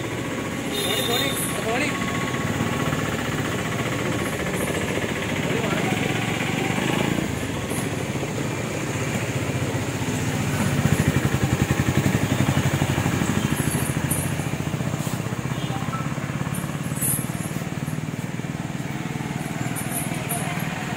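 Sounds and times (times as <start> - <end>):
motorcycle engine pulsing: 0.0 - 20.9.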